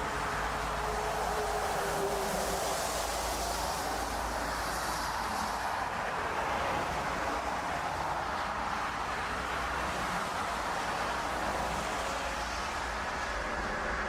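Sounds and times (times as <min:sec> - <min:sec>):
airliner engines running: 0:00.0 - 0:14.0.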